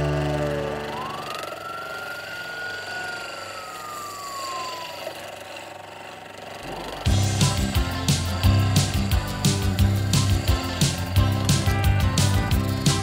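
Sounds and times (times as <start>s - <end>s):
turning tool cutting wood: 0.0s - 13.0s
wood lathe whine: 0.0s - 13.0s.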